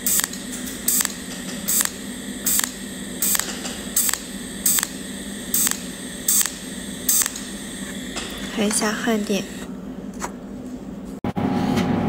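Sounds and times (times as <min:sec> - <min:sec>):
welding arc crackling bursts: 0:00.0 - 0:09.7.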